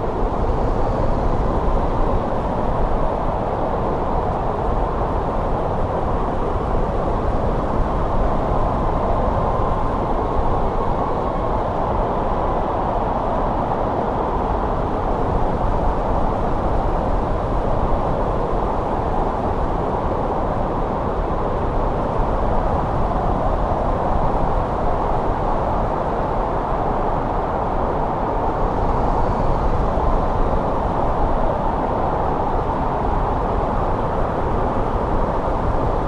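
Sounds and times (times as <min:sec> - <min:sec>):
snowstorm wind rushing: 0:00.0 - 0:36.0.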